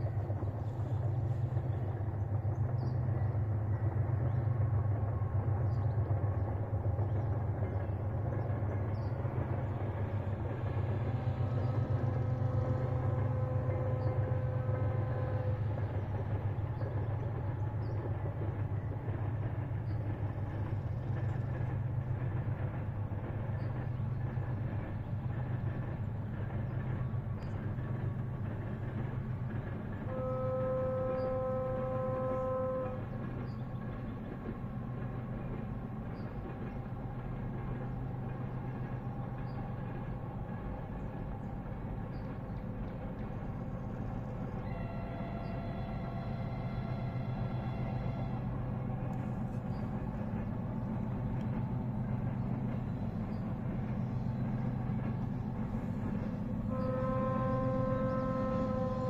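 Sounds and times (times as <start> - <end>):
distant diesel locomotives rumbling: 0.0 - 59.0.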